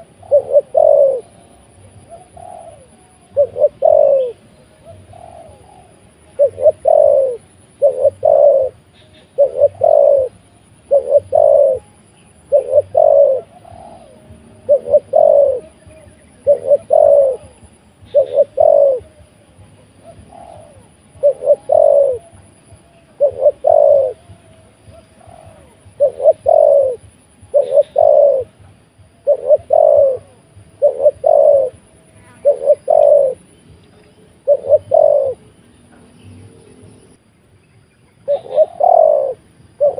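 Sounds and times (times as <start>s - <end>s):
dove cooing: 0.0s - 37.1s, 38.2s - 39.9s.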